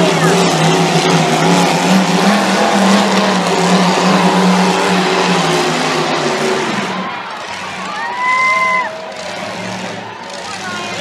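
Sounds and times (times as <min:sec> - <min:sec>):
rush of noise: 0:00.0 - 0:11.0
truck engines revving hard: 0:00.0 - 0:11.0.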